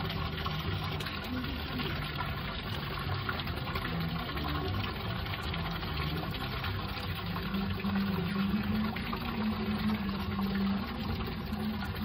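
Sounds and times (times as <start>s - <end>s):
water pouring into a well: 0.0s - 12.0s
water splashing: 0.0s - 12.0s.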